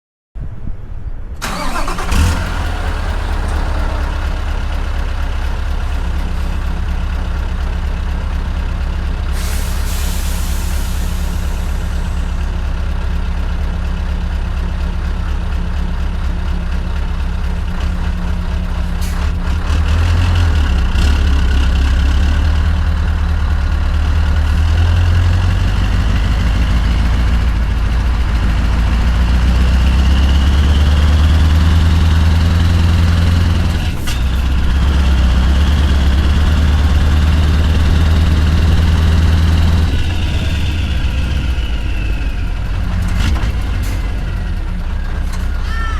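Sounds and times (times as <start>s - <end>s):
diesel truck engine starting and idling: 1.3s - 45.9s.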